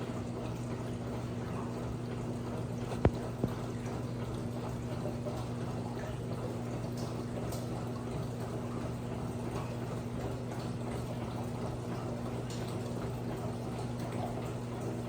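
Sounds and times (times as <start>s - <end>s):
washing machine low hum: 0.0s - 15.0s.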